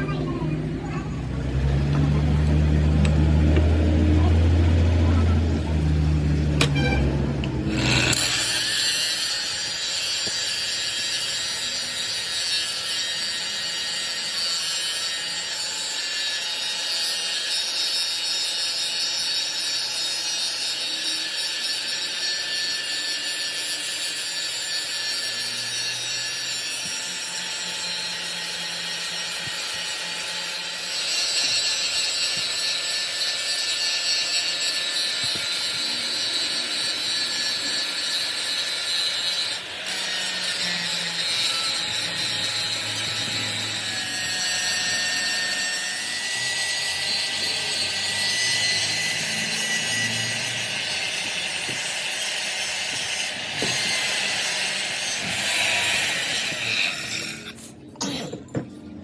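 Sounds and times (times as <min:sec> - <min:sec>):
power tool cutting metal: 0:00.8 - 0:58.6.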